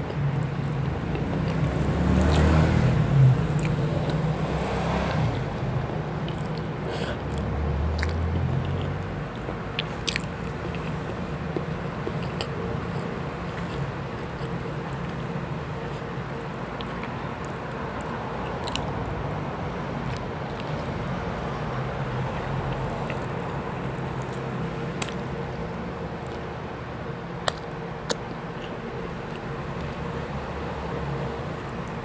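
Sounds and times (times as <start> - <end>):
person chewing food: 0.0 - 19.2, 20.0 - 21.1, 22.2 - 26.5, 27.4 - 30.0.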